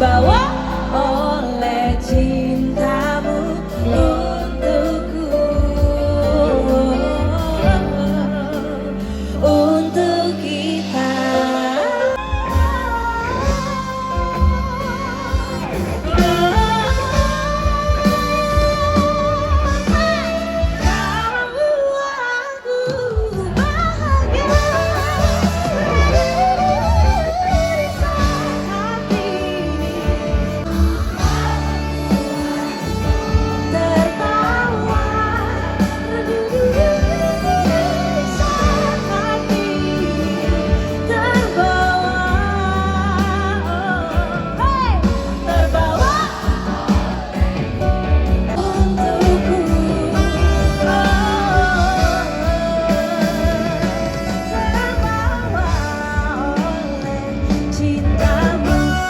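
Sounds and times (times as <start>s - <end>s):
heavy bass: 0.0s - 11.2s, 12.1s - 21.6s, 23.3s - 59.0s
live pop band playing: 0.0s - 59.0s
person singing: 0.0s - 59.0s.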